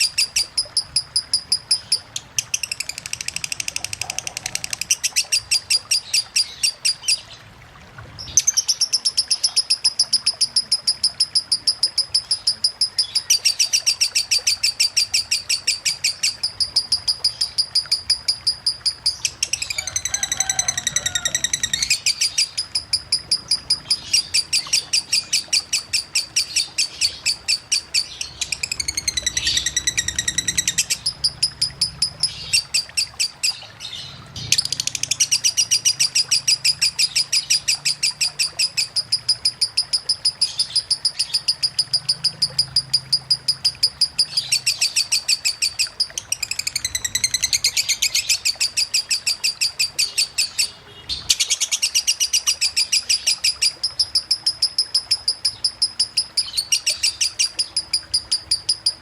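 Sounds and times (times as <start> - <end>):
lovebird singing: 0.0 - 7.4, 8.2 - 59.0.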